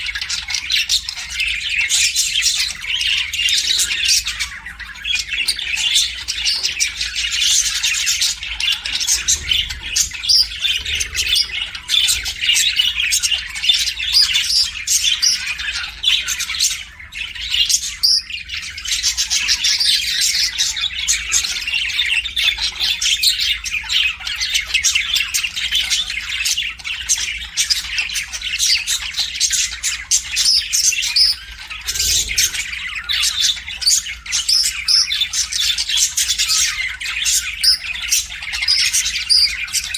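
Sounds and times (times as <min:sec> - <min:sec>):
budgies chattering and chirping: 0:00.0 - 0:39.9.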